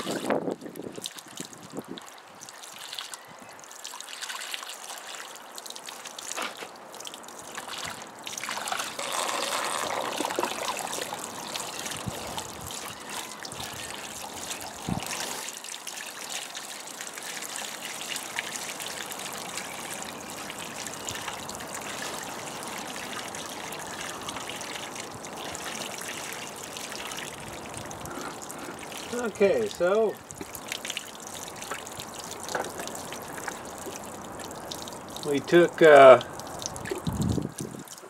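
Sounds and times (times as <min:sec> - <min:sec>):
muddy water pouring from bucket: 0:00.0 - 0:38.0.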